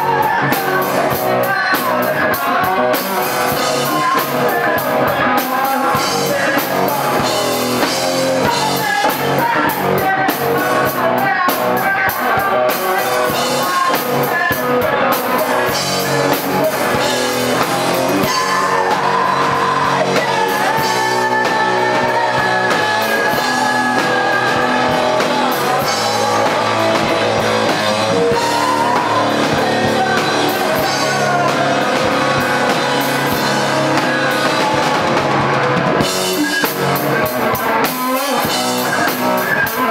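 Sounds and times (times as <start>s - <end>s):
drum kit: 0.0s - 39.9s
electric guitars: 0.0s - 39.9s
live rock band playing: 0.0s - 39.9s.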